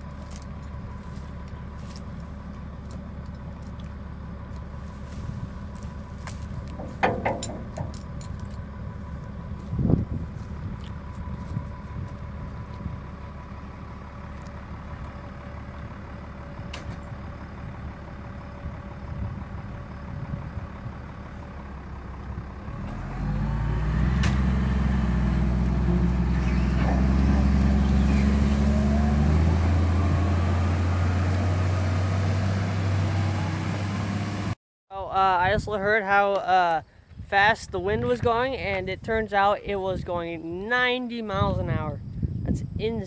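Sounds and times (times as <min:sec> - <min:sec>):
diesel engine rumbling: 0:00.0 - 0:43.0.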